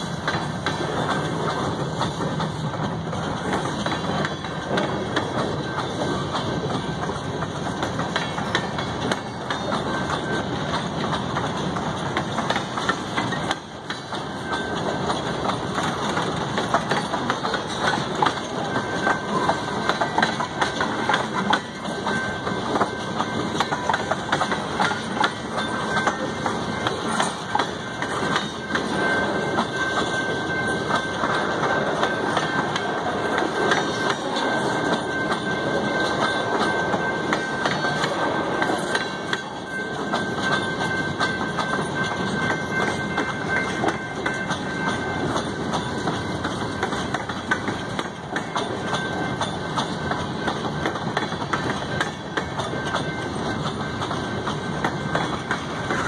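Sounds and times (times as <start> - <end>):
freight train rumbling past: 0.0 - 56.0
wheels clicking over rail joints: 0.0 - 56.0.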